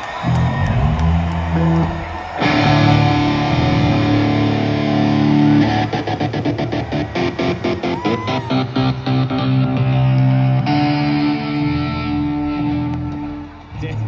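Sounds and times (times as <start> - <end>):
electric guitar: 0.0 - 13.8
bass guitar: 0.0 - 14.0.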